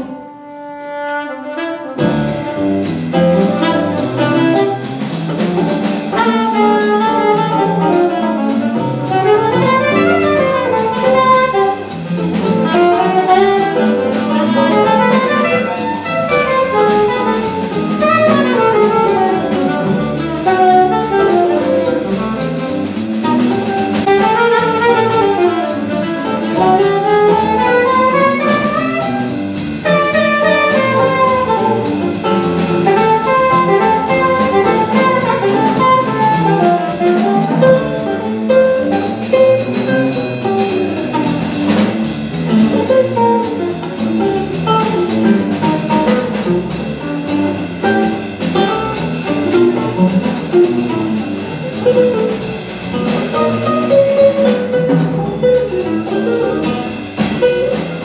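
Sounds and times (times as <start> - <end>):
alto saxophone solo: 0.0 - 51.2, 51.8 - 58.0
small-group jazz: 0.0 - 58.0.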